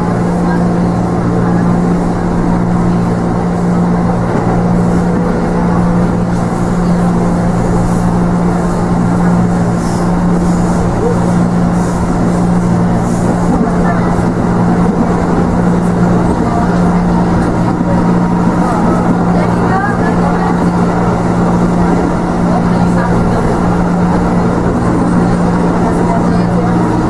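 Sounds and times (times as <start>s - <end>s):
train carriage running noise: 0.0s - 27.0s.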